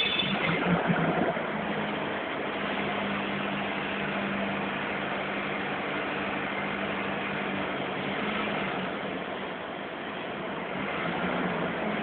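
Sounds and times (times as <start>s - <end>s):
forklift humming: 0.0s - 12.0s.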